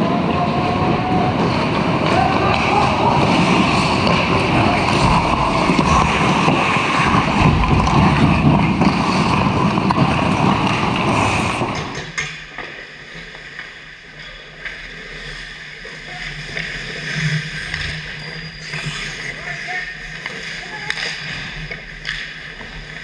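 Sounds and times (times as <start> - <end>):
skates on ice: 0.0 - 23.0.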